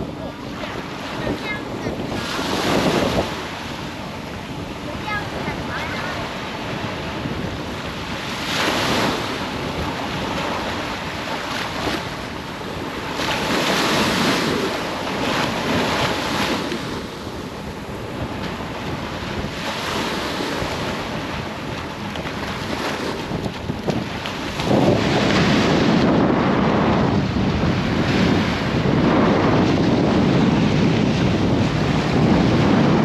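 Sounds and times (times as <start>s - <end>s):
surf washing onto beach: 0.0s - 33.0s
wind buffeting microphone: 0.0s - 33.0s.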